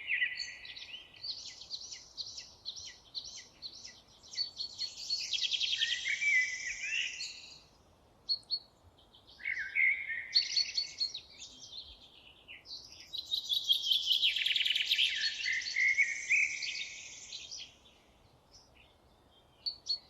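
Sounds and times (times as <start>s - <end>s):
songbirds trilling: 0.0s - 20.0s.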